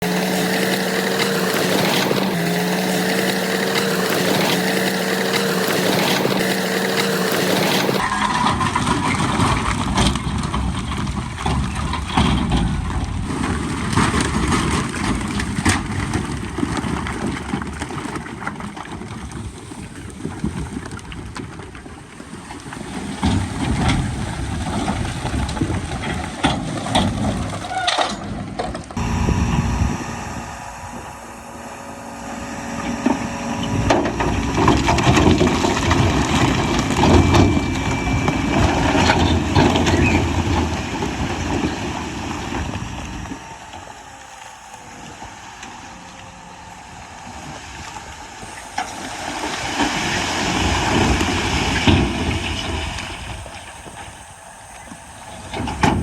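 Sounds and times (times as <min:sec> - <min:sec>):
bulldozer diesel engine: 0:00.0 - 0:17.3, 0:22.8 - 0:56.0
track clatter: 0:00.0 - 0:18.8, 0:22.6 - 0:56.0.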